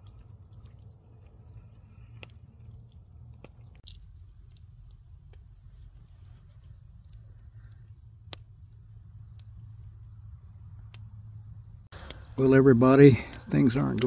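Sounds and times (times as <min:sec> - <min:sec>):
campfire crackling and popping: 0:00.0 - 0:14.0
low steady rumble: 0:00.0 - 0:14.0.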